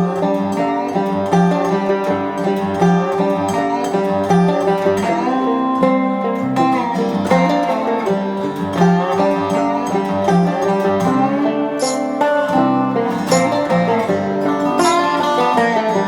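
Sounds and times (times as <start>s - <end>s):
acoustic guitar and banjo tune: 0.0s - 16.0s.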